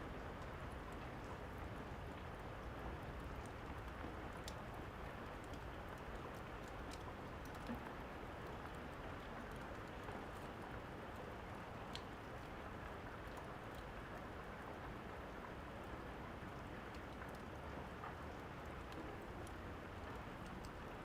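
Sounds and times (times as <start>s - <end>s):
fireplace fire crackling: 0.2s - 21.0s.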